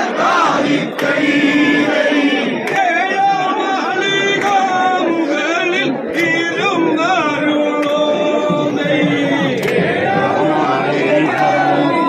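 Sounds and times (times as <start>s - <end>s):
men singing in chorus: 0.0s - 12.0s.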